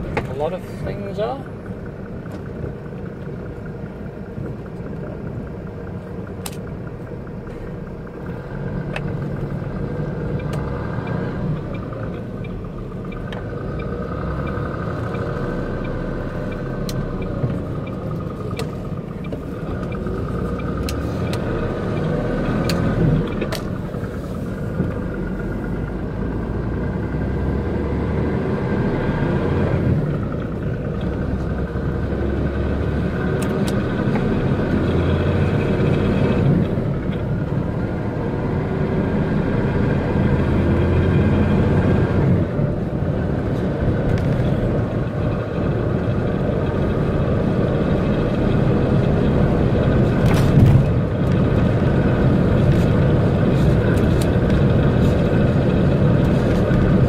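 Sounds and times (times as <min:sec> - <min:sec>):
truck diesel engine accelerating: 0:00.0 - 0:57.0.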